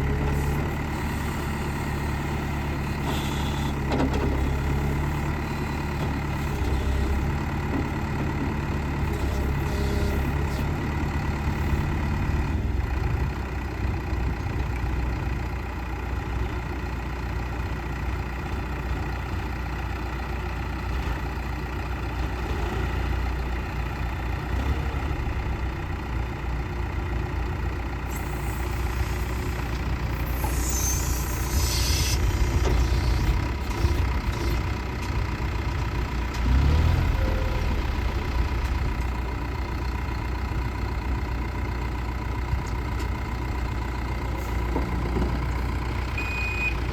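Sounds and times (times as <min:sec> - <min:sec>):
backhoe loader engine running: 0:00.0 - 0:46.9.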